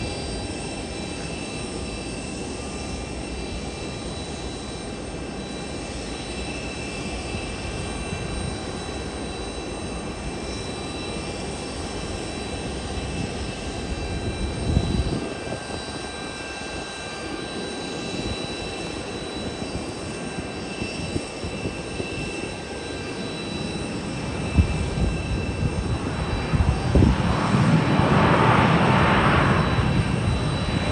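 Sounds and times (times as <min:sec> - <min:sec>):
jet engines rumbling with whine: 0:00.0 - 0:30.9.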